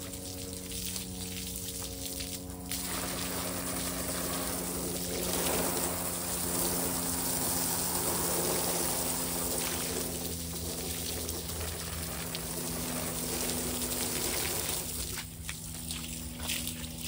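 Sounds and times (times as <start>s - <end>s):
hose spraying water: 0.0s - 17.0s.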